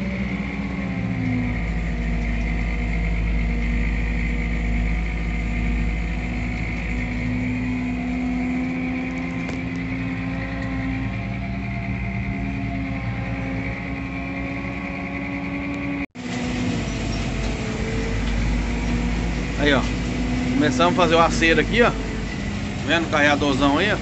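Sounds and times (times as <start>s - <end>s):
tractor diesel engine rumbling: 0.0s - 24.0s.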